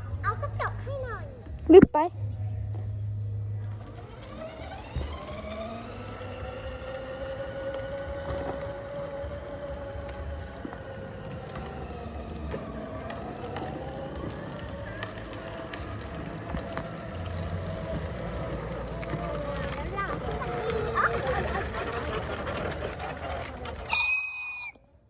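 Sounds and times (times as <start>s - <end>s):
wheels rumbling: 0.0s - 25.0s
electric motor whining: 3.6s - 24.7s.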